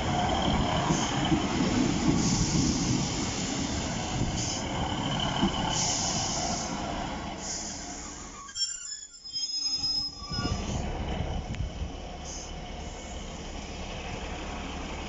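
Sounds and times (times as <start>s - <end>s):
train wheels rumbling on rail: 0.0s - 8.5s, 10.2s - 15.0s.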